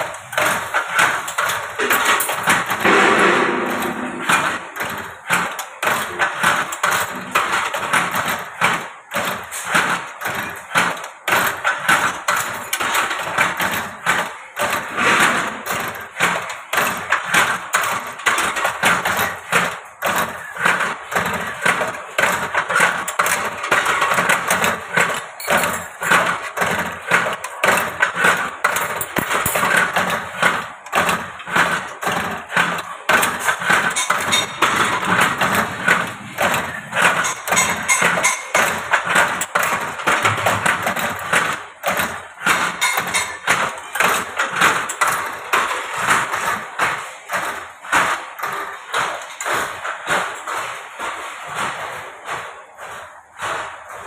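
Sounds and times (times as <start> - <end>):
machine mechanical clatter: 0.0 - 54.0.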